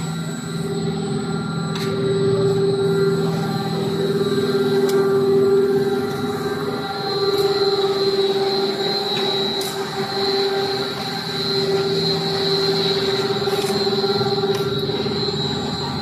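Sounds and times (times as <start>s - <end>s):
high whine: 0.0s - 16.0s
machine mechanical drone: 0.0s - 16.0s.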